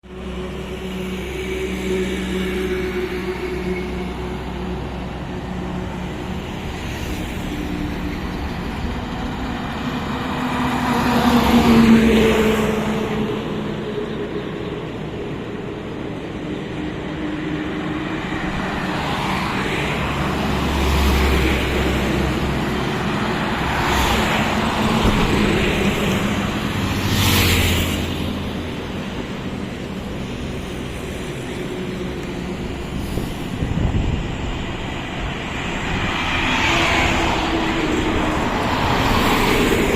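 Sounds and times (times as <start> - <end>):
highway traffic passing: 0.0 - 39.9.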